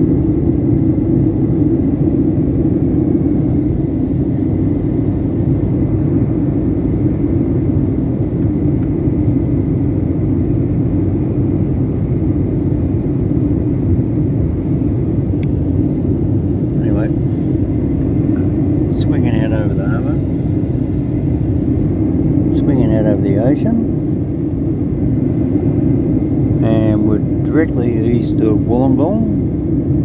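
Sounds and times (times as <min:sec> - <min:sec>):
airliner engine drone in cabin: 0:00.0 - 0:30.0.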